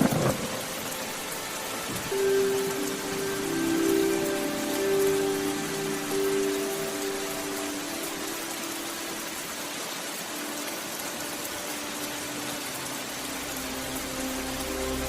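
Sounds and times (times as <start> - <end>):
rain hiss: 0.0 - 15.0
soft music of held notes: 0.0 - 15.0.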